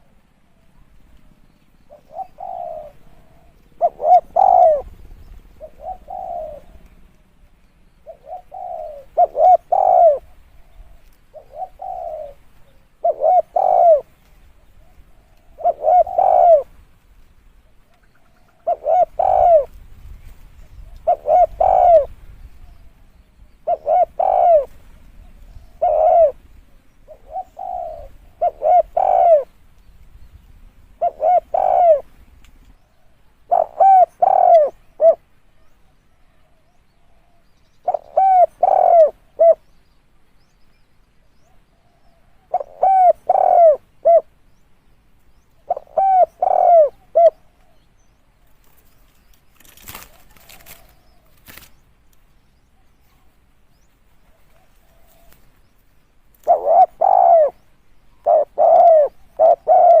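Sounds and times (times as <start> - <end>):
dove cooing: 1.9 - 7.1, 8.0 - 16.8, 17.6 - 29.6, 31.0 - 32.2, 32.8 - 39.7, 41.4 - 44.4, 45.6 - 51.7, 53.8 - 55.5, 56.4 - 60.0.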